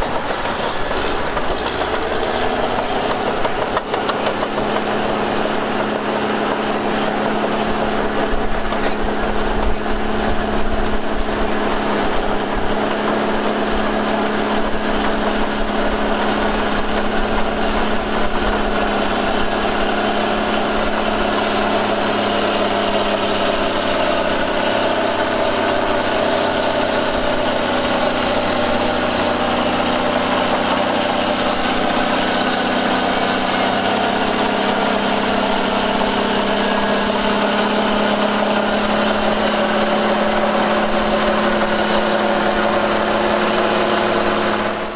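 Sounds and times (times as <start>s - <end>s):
heavy diesel engine running: 0.0s - 44.9s.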